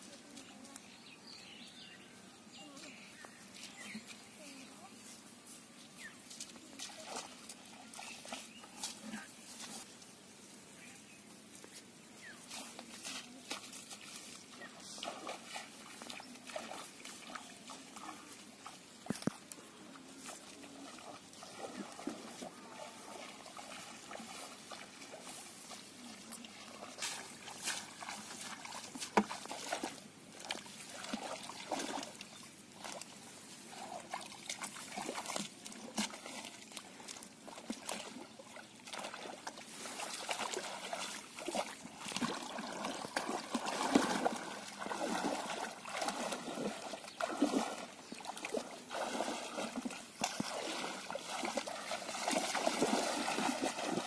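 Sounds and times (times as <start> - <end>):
muddy water splashing: 2.6 - 10.1, 12.2 - 54.0.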